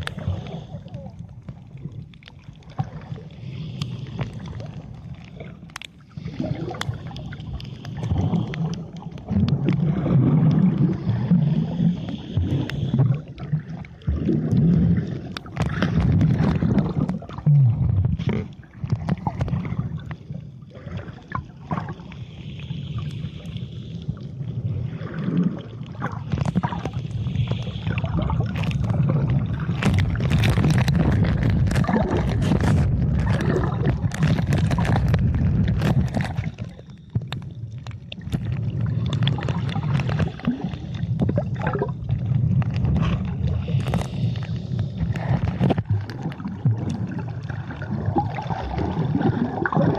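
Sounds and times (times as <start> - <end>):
clicks and bubbles: 0.0 - 22.3, 22.9 - 49.9
water sloshing and gurgling: 0.0 - 49.9.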